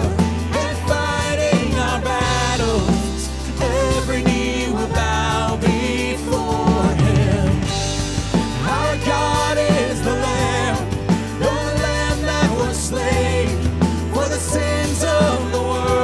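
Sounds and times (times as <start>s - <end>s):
bass notes: 0.0s - 16.0s
drums: 0.0s - 16.0s
person singing: 0.0s - 16.0s.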